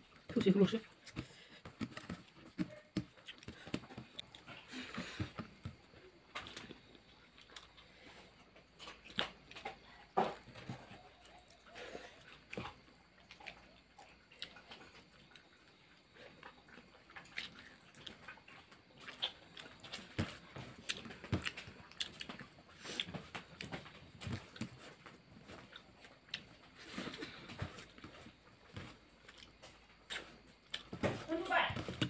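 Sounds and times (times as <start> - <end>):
man chewing and lip-smacking: 0.0 - 30.9.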